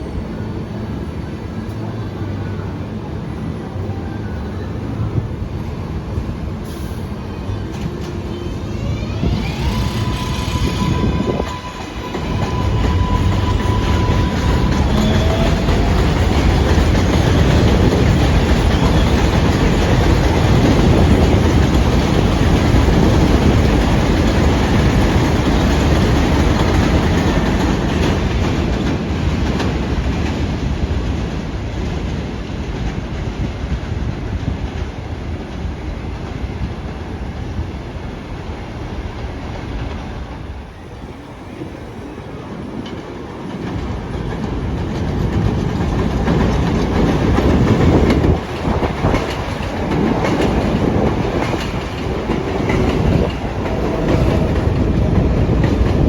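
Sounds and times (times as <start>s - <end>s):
train wheels clattering on rails: 9.2s - 40.7s, 42.4s - 56.0s.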